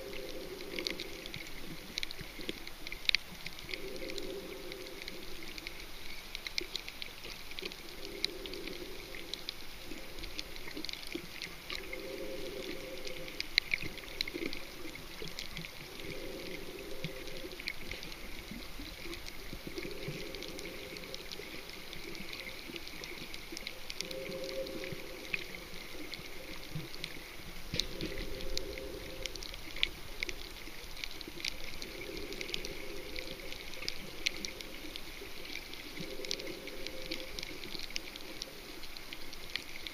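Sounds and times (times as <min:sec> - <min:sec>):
crackle of small clicks: 0:00.0 - 0:39.9
bubbling swell: 0:03.5 - 0:06.2, 0:07.7 - 0:38.7.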